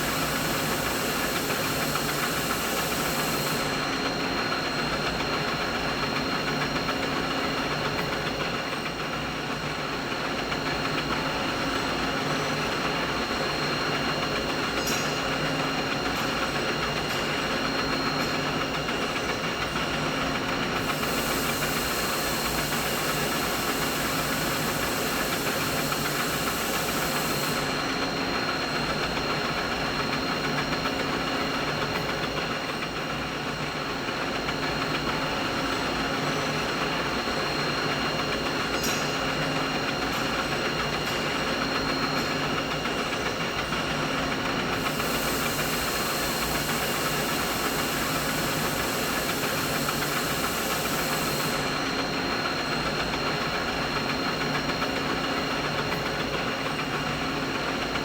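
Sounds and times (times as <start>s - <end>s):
steady machinery hum: 0.0s - 58.0s.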